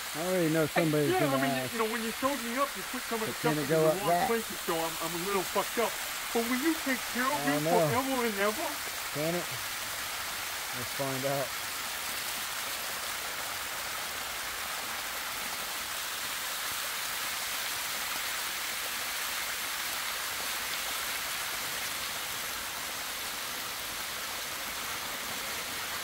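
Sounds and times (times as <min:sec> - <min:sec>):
waterfall splashing on rock: 0:00.0 - 0:26.0.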